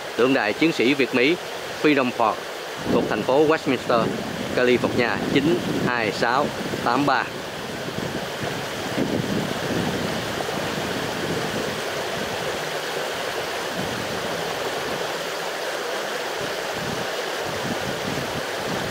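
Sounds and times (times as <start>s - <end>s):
steady rushing noise: 0.0s - 18.9s.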